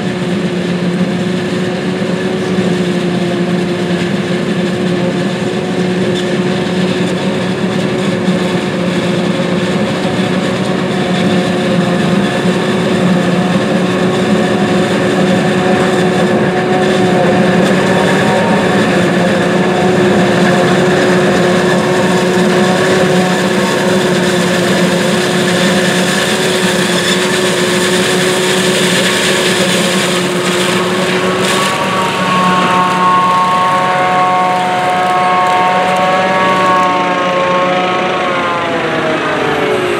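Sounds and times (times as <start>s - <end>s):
heavy machine drone: 0.0s - 39.9s
high machine whine: 0.0s - 39.9s.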